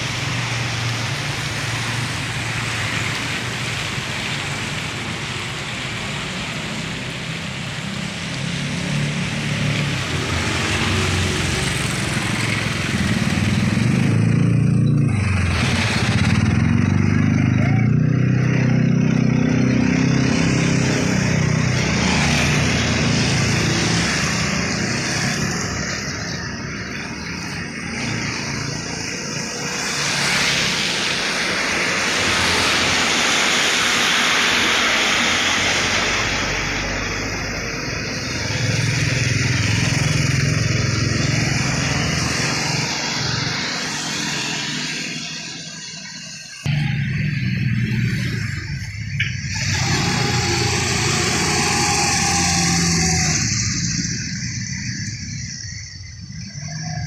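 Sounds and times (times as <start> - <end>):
tyres hissing on wet road: 0.0 - 14.4, 15.3 - 17.2, 19.2 - 57.0
motorcycles passing: 0.0 - 57.0
truck engines passing: 0.0 - 57.0.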